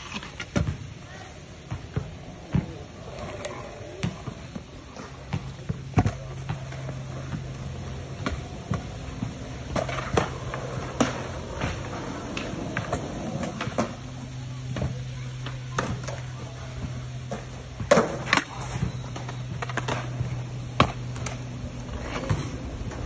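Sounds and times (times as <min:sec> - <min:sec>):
scooter rolling over concrete: 0:00.0 - 0:00.9, 0:01.6 - 0:23.0.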